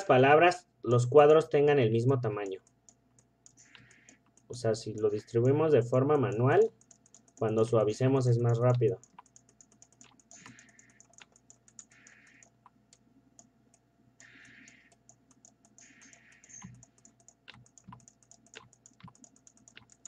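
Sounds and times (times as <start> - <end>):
keyboard and mouse clicking: 2.2 - 20.0.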